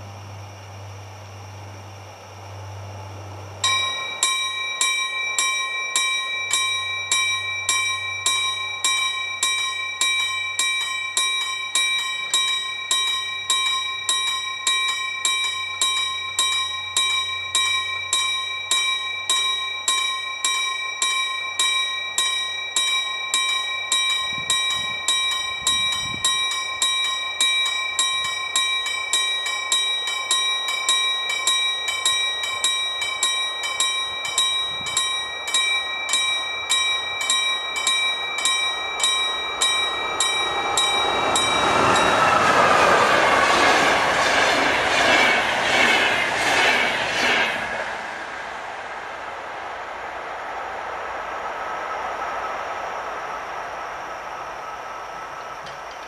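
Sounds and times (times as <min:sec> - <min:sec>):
level-crossing warning bell ringing: 0:03.6 - 0:50.4, 0:51.3 - 0:56.0.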